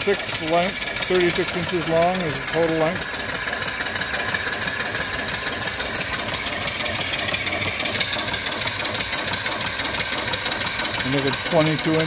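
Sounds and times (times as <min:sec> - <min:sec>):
steam engine exhaust chuffs: 0:00.0 - 0:12.0.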